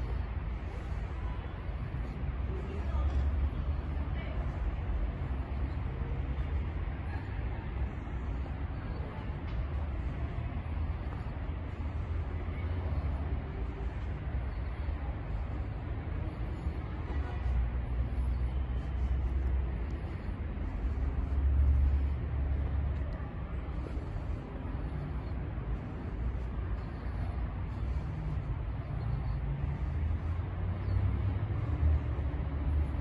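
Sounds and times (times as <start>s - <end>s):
steady low outdoor rumble: 0.0s - 33.0s.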